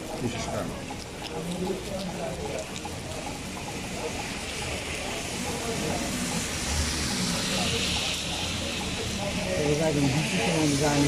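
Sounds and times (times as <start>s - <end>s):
rain hissing on wet road: 0.0s - 11.0s.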